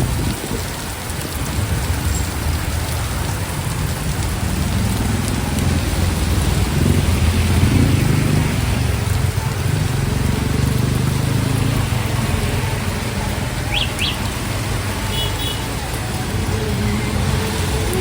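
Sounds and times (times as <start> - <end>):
heavy rain hissing: 0.0 - 18.0
vehicle engine rumbling: 0.0 - 18.0.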